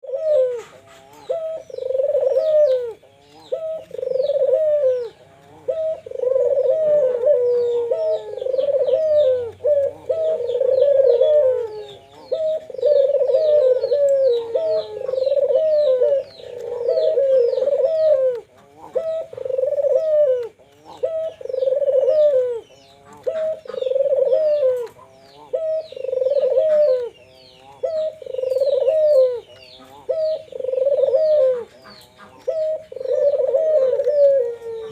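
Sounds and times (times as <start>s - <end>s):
doves cooing: 0.0s - 34.9s
small bird chirping: 0.0s - 34.9s.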